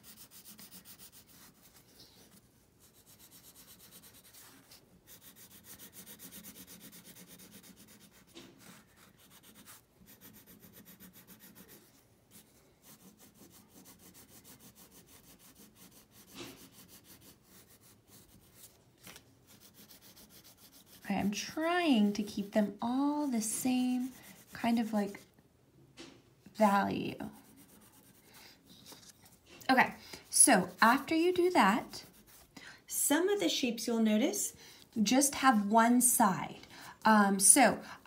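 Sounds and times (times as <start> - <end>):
crayon scratching on paper: 0.0 - 18.8, 19.5 - 25.3, 26.6 - 32.5.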